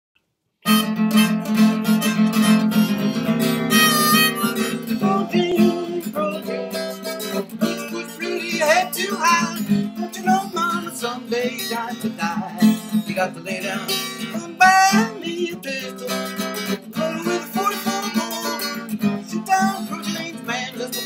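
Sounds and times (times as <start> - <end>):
acoustic guitar: 0.6 - 21.0
harmonica bending notes: 0.6 - 21.0.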